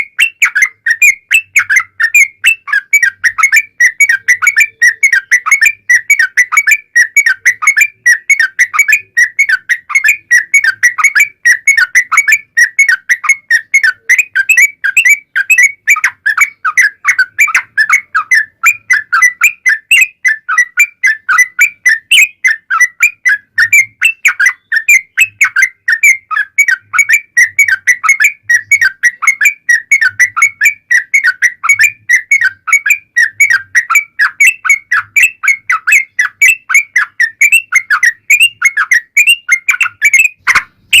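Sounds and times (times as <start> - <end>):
bulbul singing whistled notes: 0.0 - 41.0.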